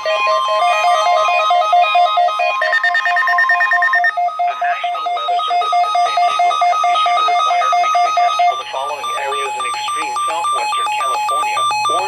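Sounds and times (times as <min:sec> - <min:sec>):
steady alert tone: 0:00.0 - 0:12.0
two-pitch alarm beeping: 0:00.0 - 0:12.0.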